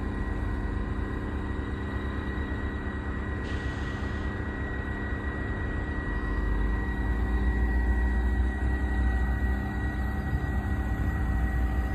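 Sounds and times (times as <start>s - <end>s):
industrial machinery hum: 0.0s - 11.9s.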